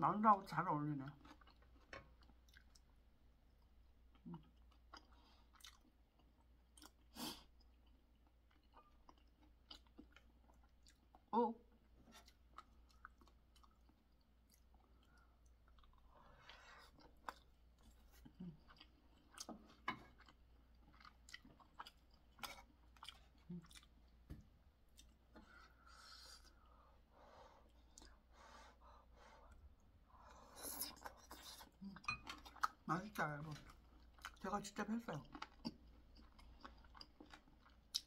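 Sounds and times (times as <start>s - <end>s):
chewing sticky food: 1.0s - 26.8s, 29.1s - 38.0s.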